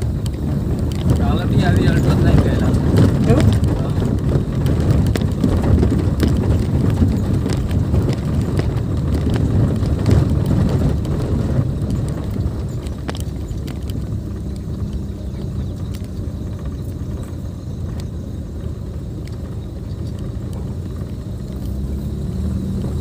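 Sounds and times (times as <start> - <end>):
car engine and tyres rumbling: 0.0 - 23.0
stones knocking under car: 0.0 - 23.0.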